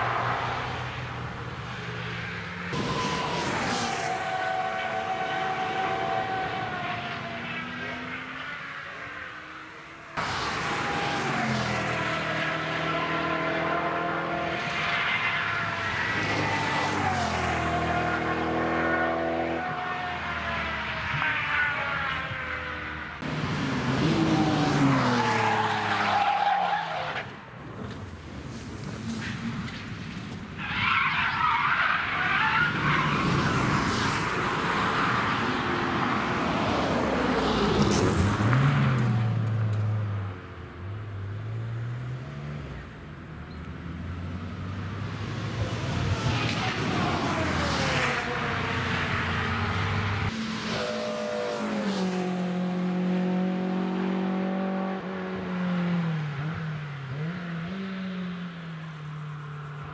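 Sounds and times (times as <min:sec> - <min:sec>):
cars driving past: 0:00.0 - 0:59.9.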